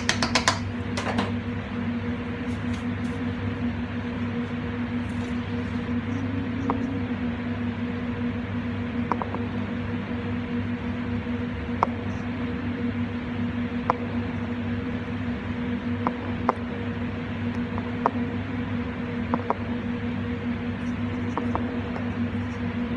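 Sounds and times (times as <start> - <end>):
kitchen machinery hum and hiss: 0.0 - 22.9.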